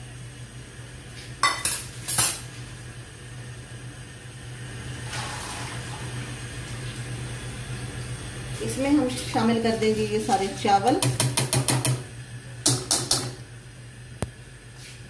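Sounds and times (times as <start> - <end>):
pot of water heating on gas burner: 0.0 - 15.0.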